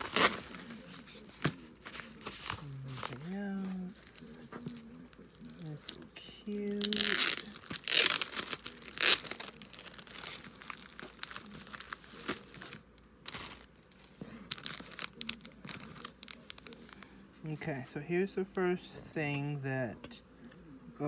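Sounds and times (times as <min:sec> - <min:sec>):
plastic packaging crinkling: 0:00.0 - 0:17.1.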